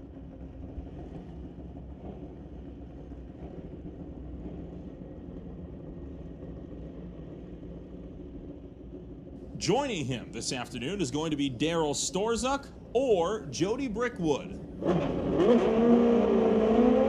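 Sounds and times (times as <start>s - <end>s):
motorcycle engines rumbling: 0.1s - 17.0s.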